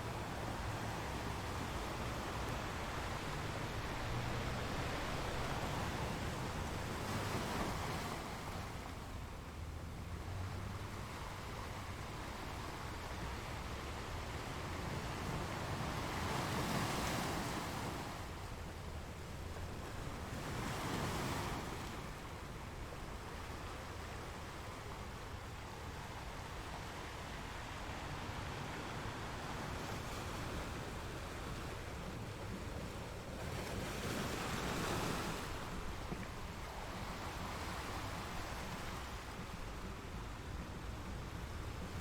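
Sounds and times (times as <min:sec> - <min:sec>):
ocean surf washing: 0:00.0 - 0:42.0
waves breaking: 0:00.0 - 0:42.0.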